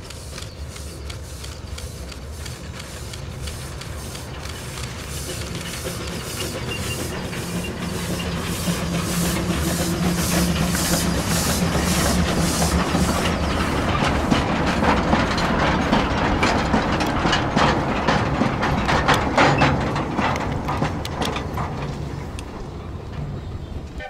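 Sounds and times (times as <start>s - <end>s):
steady train rumble: 0.0s - 24.0s
train wheels clattering over rail joints: 0.0s - 24.0s.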